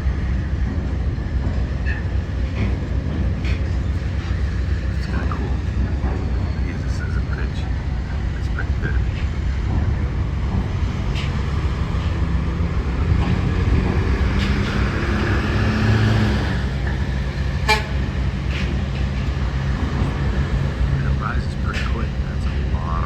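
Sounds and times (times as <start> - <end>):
low rumble with mechanical hum: 0.0 - 23.0.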